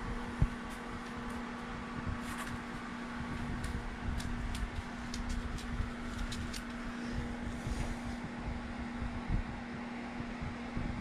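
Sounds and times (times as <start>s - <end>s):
mechanical hum with low rumble: 0.0s - 11.0s.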